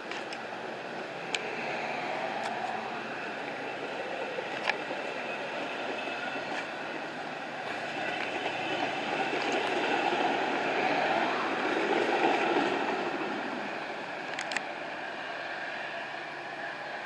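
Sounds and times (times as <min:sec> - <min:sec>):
train rumbling away: 0:00.0 - 0:17.0.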